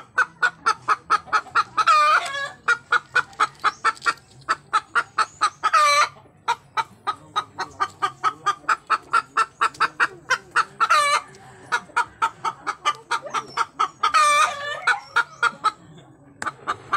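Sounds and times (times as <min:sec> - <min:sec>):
hen clucking: 0:00.0 - 0:16.9.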